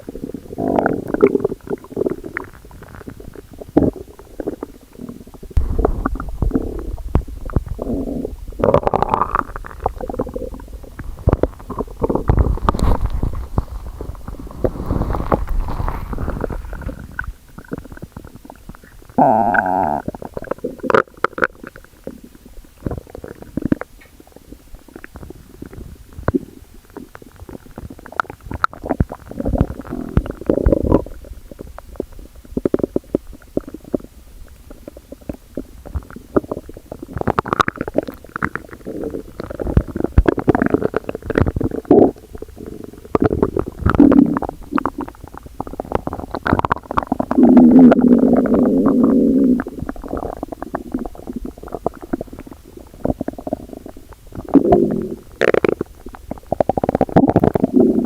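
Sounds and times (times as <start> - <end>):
stomach growling: 0.0 - 58.0.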